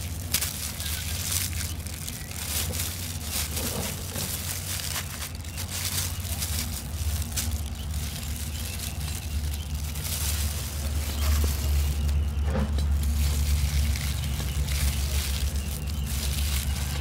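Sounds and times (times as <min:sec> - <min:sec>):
low motor hum: 0:00.0 - 0:17.0
plastic gloves crinkling: 0:00.0 - 0:17.0.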